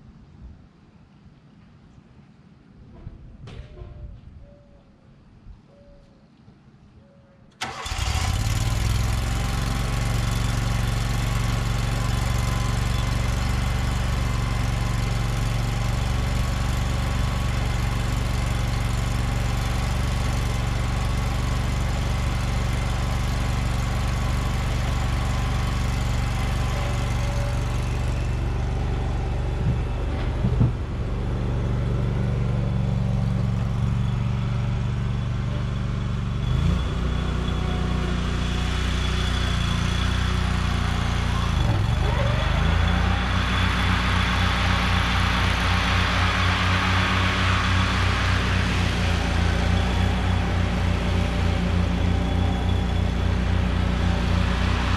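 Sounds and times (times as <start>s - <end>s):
lawn mower engine running: 7.6s - 54.9s.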